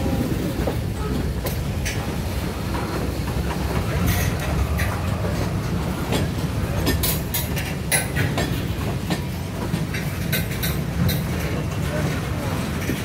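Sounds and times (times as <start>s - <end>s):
freight train rumbling past: 0.0s - 13.0s
wheels clicking on rails: 0.0s - 13.0s.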